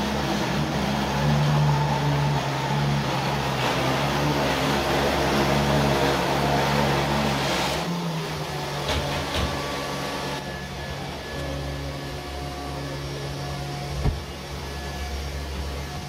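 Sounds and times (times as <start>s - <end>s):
robot vacuum cleaner whirring: 0.0s - 16.0s.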